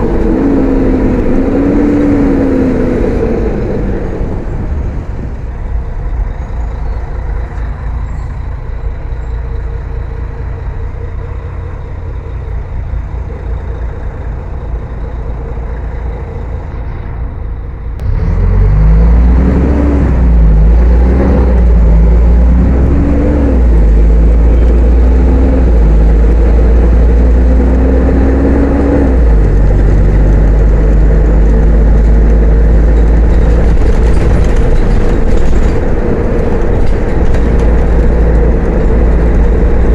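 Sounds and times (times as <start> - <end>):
bus diesel engine: 0.0 - 39.9
bus engine revving under load: 0.0 - 39.9.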